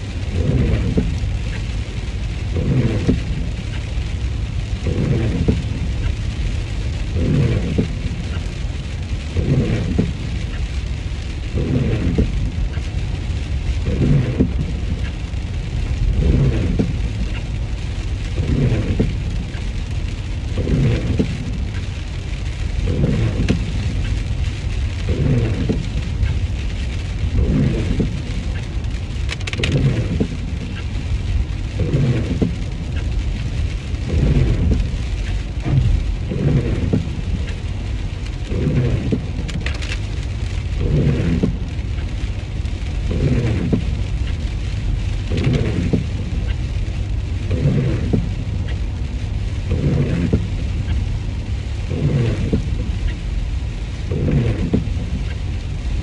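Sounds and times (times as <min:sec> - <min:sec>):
rain hissing on car: 0:00.0 - 0:56.0
road rumble inside car: 0:00.0 - 0:56.0
windscreen wiper sweeping: 0:00.0 - 0:56.0.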